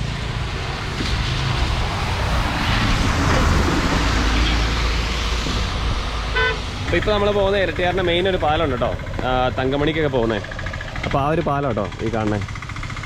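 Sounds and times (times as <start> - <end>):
vehicle engine hum and road noise: 0.0 - 13.0.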